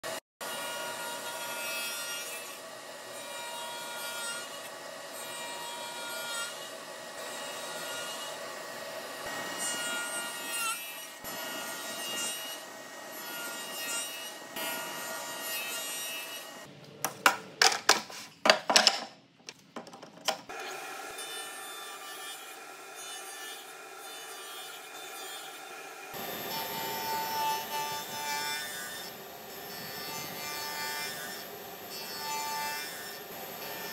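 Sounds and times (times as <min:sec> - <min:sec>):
radial arm saw cutting wood: 0:00.4 - 0:16.7, 0:20.5 - 0:33.9.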